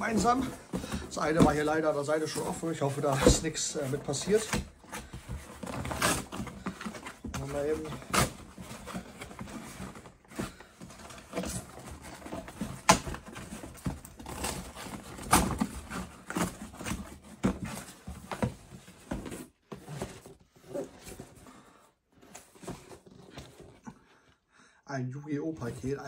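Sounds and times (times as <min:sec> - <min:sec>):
cardboard packaging rustling: 0:00.0 - 0:24.4.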